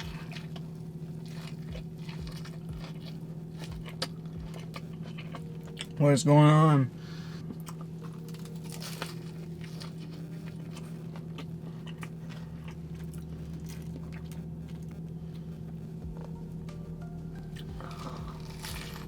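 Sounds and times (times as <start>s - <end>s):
chewing and biting food: 0.0s - 6.0s, 7.4s - 15.8s, 17.5s - 19.0s
steady low hum: 0.0s - 19.0s.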